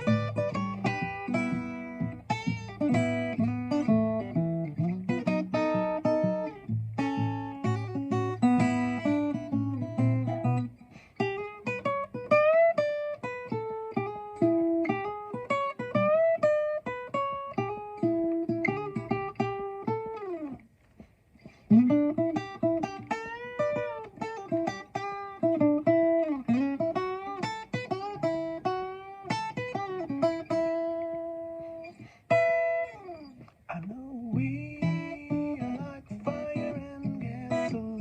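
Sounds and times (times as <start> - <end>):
plucked guitar notes: 0.0 - 20.8, 21.5 - 38.0.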